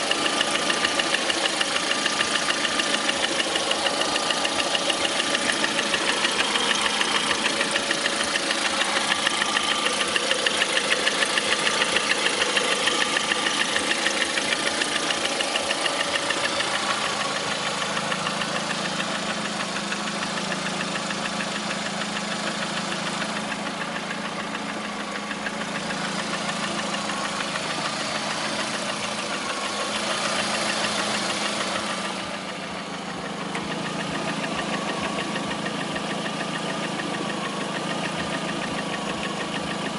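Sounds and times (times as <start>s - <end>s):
car engine running with knock: 0.0s - 39.9s.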